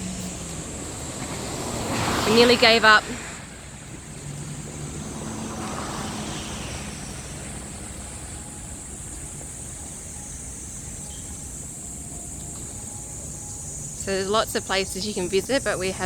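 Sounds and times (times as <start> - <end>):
constant high hiss: 0.0 - 16.0
low traffic rumble: 0.0 - 16.0.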